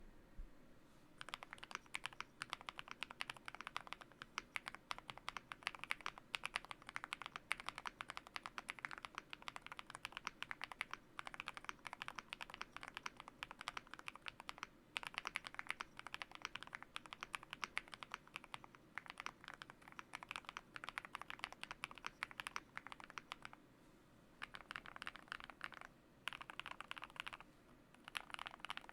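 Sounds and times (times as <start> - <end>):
mechanical keyboard typing: 1.2 - 23.6, 24.4 - 27.4, 28.0 - 28.9.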